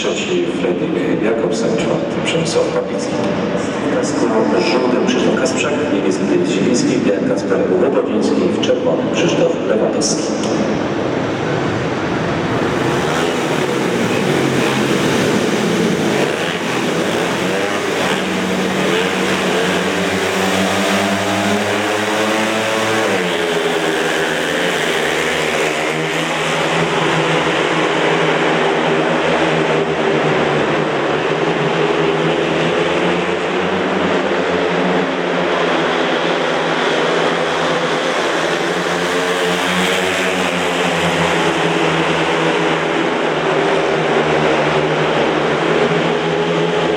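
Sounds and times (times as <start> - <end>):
motorcycle engines racing at high revs: 0.0 - 46.9.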